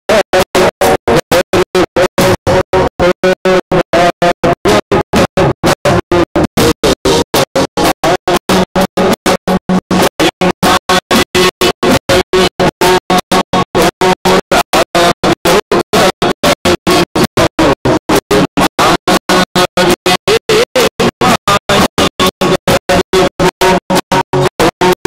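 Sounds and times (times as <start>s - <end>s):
keyboards: 0.0s - 25.0s.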